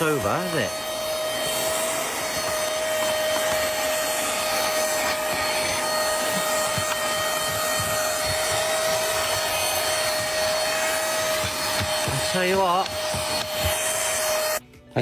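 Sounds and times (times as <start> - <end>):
handheld vacuum cleaner running: 0.0 - 14.6.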